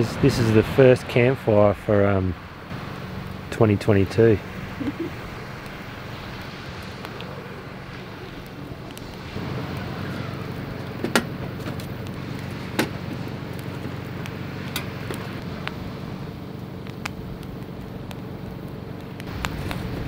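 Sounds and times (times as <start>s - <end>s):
steady low hum: 0.0s - 20.0s
campfire crackling and popping: 2.5s - 20.0s.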